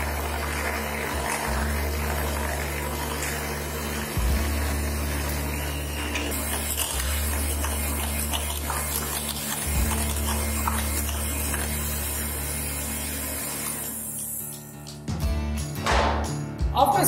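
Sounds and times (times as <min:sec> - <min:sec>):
electric hand mixer whisking: 0:00.0 - 0:14.7.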